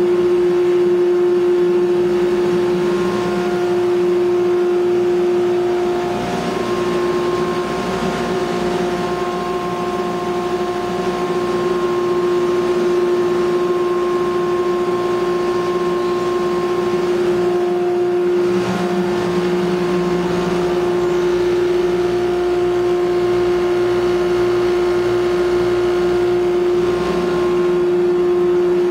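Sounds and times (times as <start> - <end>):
dust collector humming: 0.0 - 28.9
fan whine: 0.0 - 28.9.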